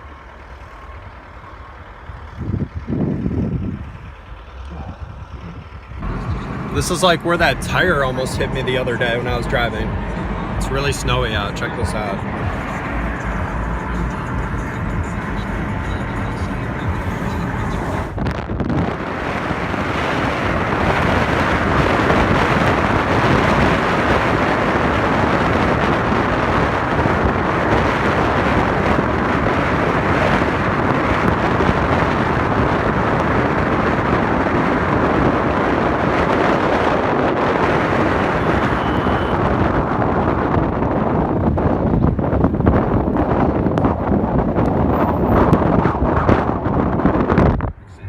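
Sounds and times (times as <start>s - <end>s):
road and tyre noise: 0.0s - 48.0s
wind rushing over microphone: 2.1s - 48.0s.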